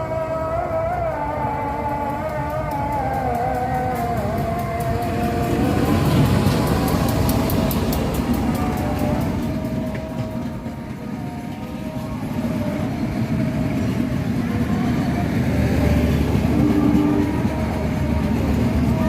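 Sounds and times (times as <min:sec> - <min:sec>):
train rumbling past: 0:00.0 - 0:19.0
wheels clicking over rails: 0:00.8 - 0:19.0.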